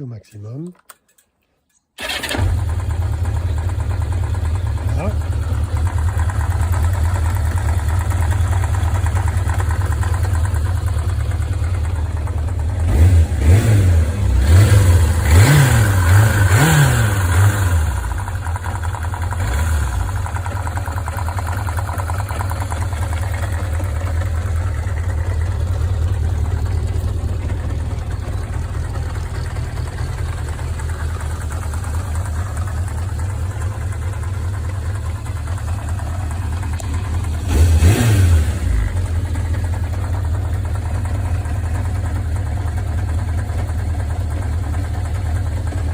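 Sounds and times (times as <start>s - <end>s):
car engine idling and revving: 2.0s - 45.9s.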